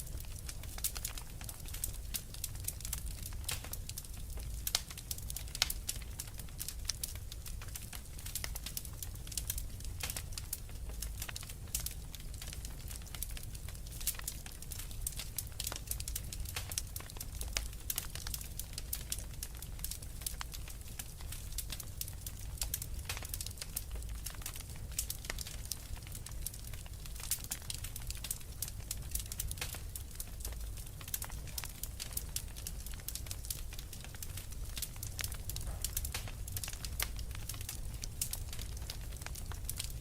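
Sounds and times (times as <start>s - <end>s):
fireplace fire crackling: 0.0s - 40.0s.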